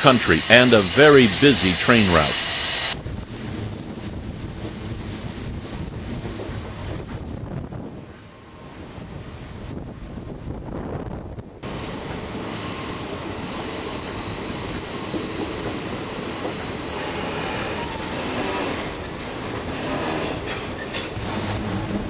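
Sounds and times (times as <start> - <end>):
steady train rumble: 0.0 - 22.0.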